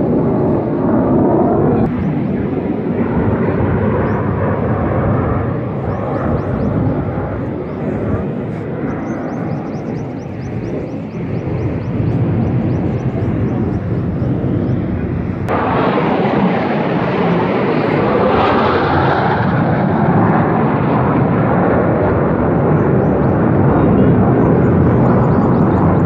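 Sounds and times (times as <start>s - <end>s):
jet aircraft roar: 0.0s - 26.0s.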